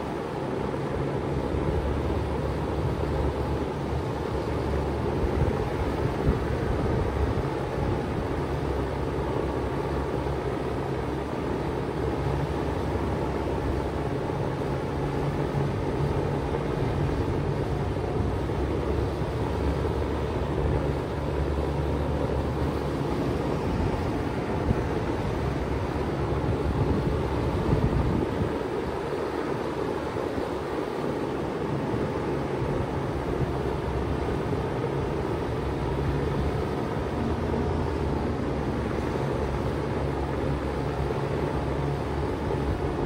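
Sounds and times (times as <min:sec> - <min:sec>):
heat pump humming: 0:00.0 - 0:43.0
rush of air: 0:00.0 - 0:43.0.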